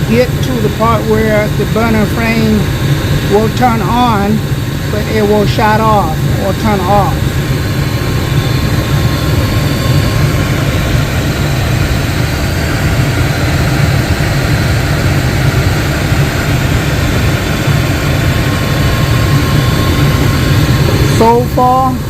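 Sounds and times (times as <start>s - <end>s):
gas furnace burner rumbling: 0.0s - 22.0s.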